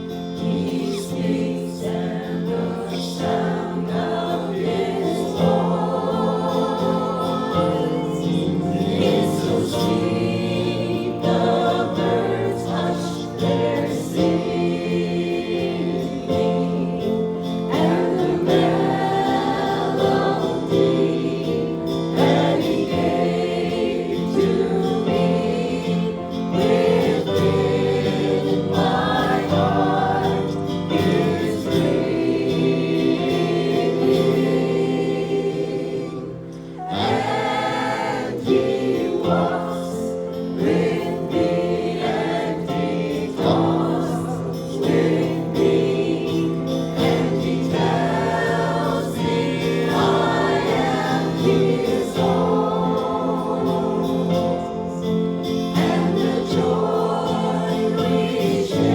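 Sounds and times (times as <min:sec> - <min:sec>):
choir singing a hymn: 0:00.0 - 0:58.9.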